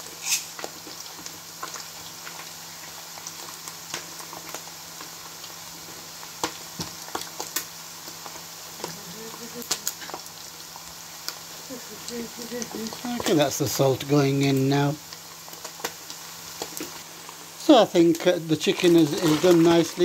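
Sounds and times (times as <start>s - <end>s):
chicken frying in oil: 0.0s - 20.0s
sharp crackles of frying: 0.0s - 20.0s.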